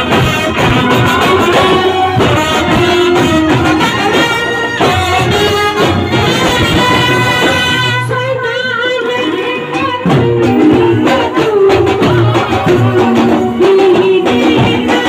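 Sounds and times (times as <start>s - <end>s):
street brass band playing: 0.0s - 15.0s.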